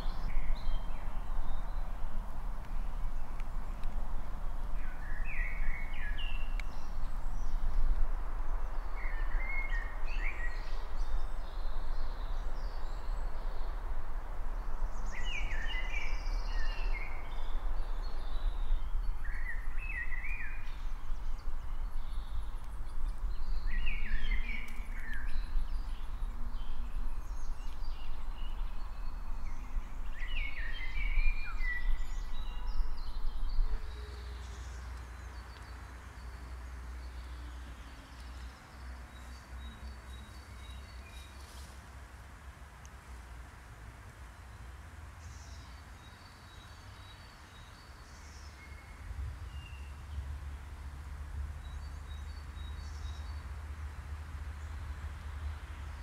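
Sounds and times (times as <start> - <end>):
songbird singing: 0.0 - 41.9, 44.2 - 56.0.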